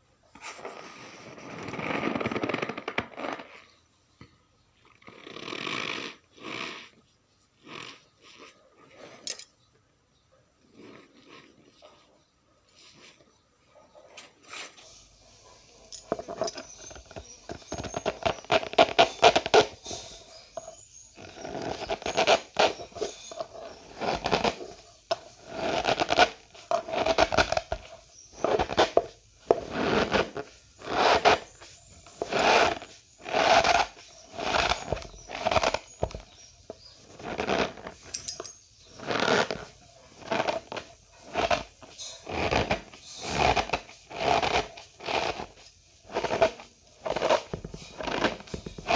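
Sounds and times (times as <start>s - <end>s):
cornstarch squeaky crunch: 4.8s - 9.1s, 10.7s - 12.2s, 14.6s - 38.2s, 38.8s - 48.9s.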